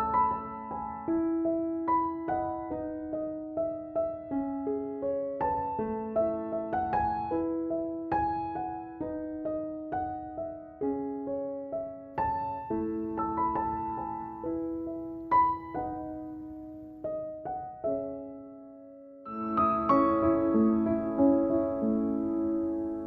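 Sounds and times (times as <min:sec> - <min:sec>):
soft solo piano music: 0:00.0 - 0:23.0.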